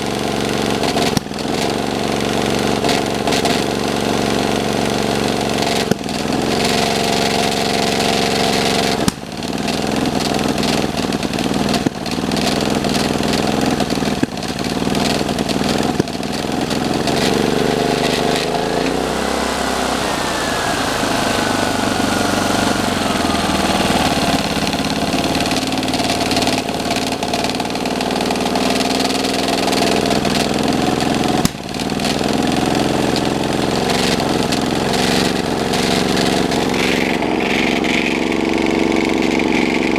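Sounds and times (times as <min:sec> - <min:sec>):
van engine running: 0:00.0 - 0:39.9.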